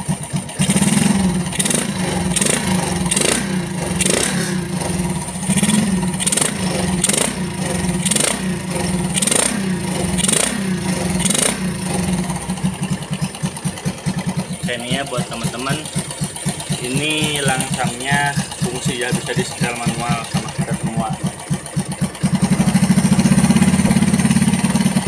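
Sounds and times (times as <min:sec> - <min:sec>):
motorcycle engine idling: 0:00.0 - 0:25.0
motorcycle engine revving: 0:00.0 - 0:25.0.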